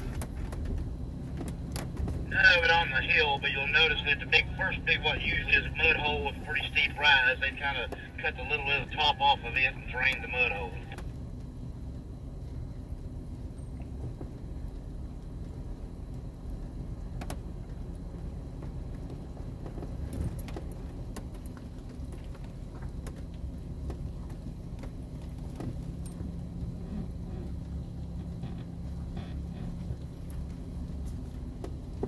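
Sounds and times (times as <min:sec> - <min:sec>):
engine and tyre rumble: 0:00.0 - 0:08.3, 0:09.0 - 0:32.0.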